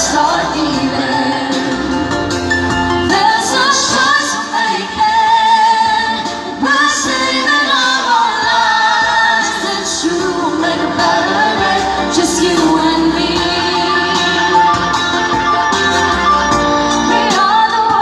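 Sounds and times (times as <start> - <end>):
woman singing through microphone: 0.0 - 2.4, 3.0 - 15.4, 17.0 - 18.0.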